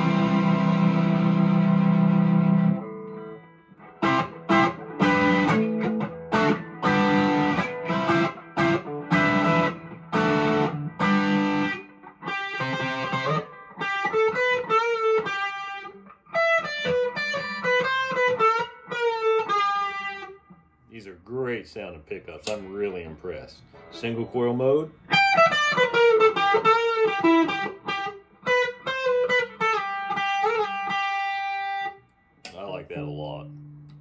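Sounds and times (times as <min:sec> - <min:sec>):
electric guitar melody: 0:00.0 - 0:20.8, 0:25.0 - 0:34.0
overdriven electric guitar chords: 0:00.0 - 0:20.8, 0:25.0 - 0:34.0.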